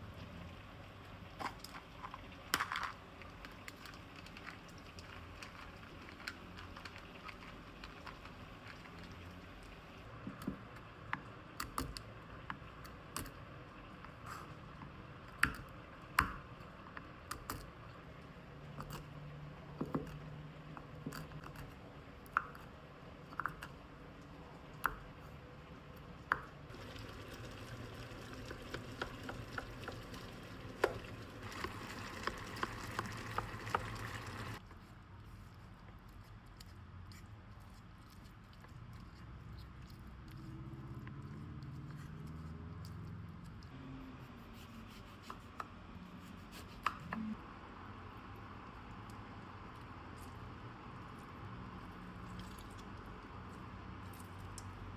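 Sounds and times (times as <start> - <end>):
faint background hum: 0.0 - 54.9.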